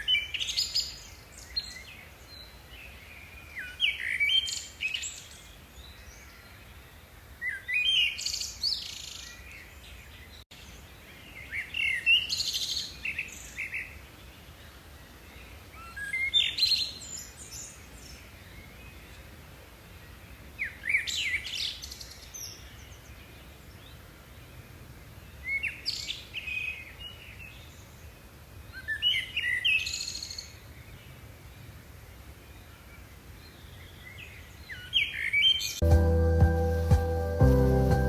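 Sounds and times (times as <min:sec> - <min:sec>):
faint background noise: 0:00.0 - 0:38.0.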